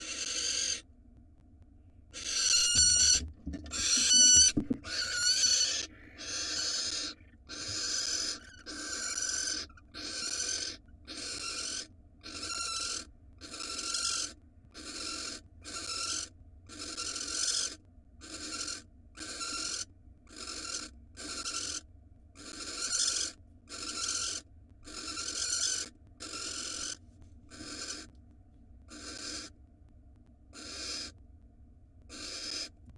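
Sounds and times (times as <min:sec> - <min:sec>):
owl rasping hissing calls: 0:00.0 - 0:00.8, 0:02.2 - 0:21.8, 0:22.4 - 0:28.1, 0:28.9 - 0:29.5, 0:30.6 - 0:31.2, 0:32.1 - 0:32.7
owl ringing calls: 0:00.0 - 0:00.8, 0:02.2 - 0:21.8, 0:22.4 - 0:28.1, 0:28.9 - 0:29.5, 0:30.6 - 0:31.1, 0:32.1 - 0:32.7.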